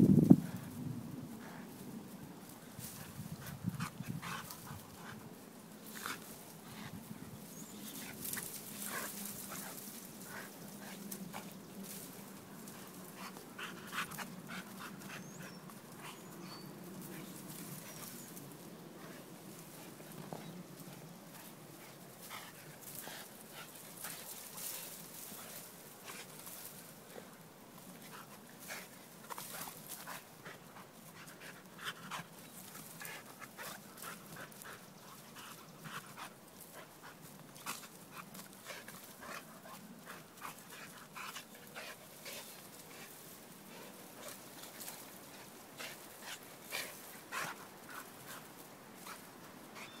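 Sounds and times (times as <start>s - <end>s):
dog panting: 3.0s - 7.1s, 12.6s - 18.1s, 19.0s - 50.0s.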